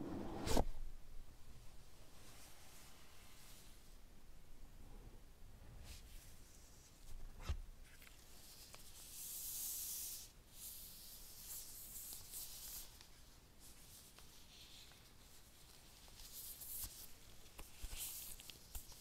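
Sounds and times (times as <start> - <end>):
soft rubbing and rustling: 1.6 - 4.0, 5.7 - 19.0.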